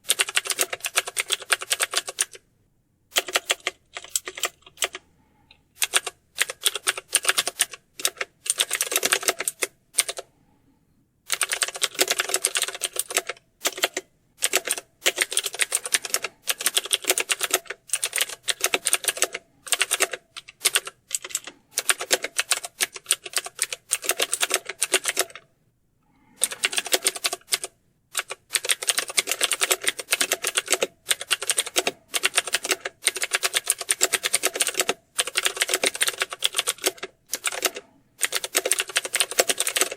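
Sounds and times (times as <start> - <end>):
fast typing on keyboard: 0.0 - 2.4, 3.1 - 5.0, 5.8 - 10.3, 11.3 - 25.4, 26.4 - 39.9.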